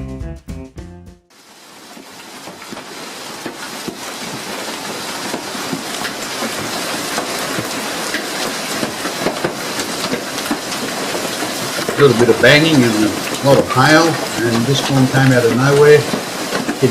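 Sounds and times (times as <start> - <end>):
hailstones clattering: 1.4 - 16.9.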